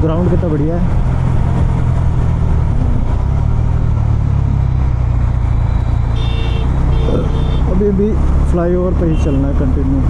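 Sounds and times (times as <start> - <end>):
wind and road noise: 0.0 - 10.0
motorcycle engine running: 0.1 - 8.7.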